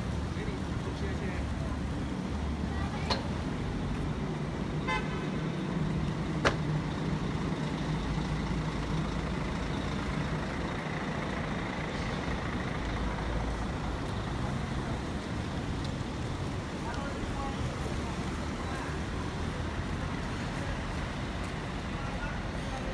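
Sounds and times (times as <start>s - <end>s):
vehicle engines rumbling: 0.0s - 22.9s.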